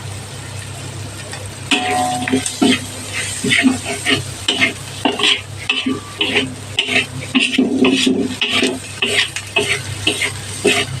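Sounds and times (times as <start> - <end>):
food sizzling in oil: 0.0 - 11.0
spatula scraping frying pan: 1.7 - 11.0.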